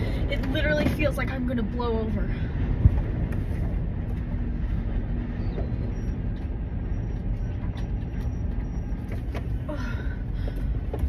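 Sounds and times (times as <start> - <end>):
storm wind buffeting vehicle: 0.0 - 11.0.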